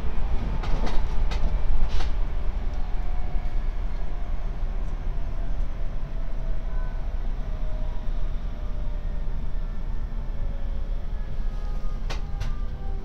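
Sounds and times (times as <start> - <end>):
muffled train rumble: 0.0 - 13.0.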